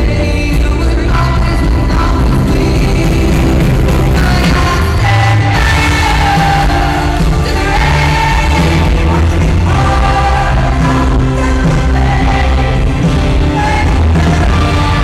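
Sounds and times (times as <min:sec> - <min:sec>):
live pop ballad with band: 0:00.0 - 0:15.0.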